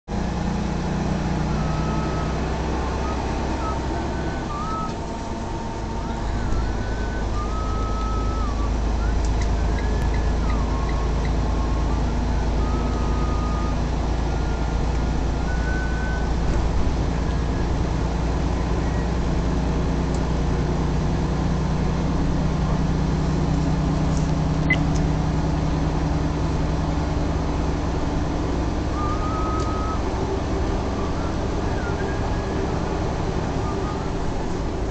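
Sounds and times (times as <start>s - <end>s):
road noise: 0.0s - 34.9s
truck engine drone: 0.0s - 34.9s.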